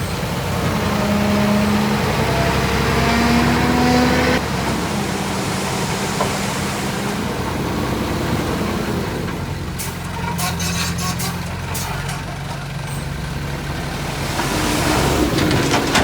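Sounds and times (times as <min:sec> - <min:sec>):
heavy diesel engine under load: 0:00.0 - 0:16.0.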